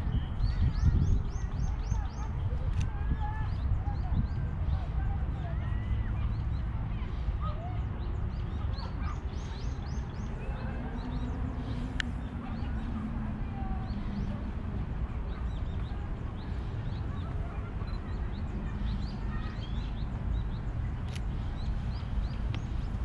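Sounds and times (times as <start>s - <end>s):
small birds chirping: 0.2s - 23.0s.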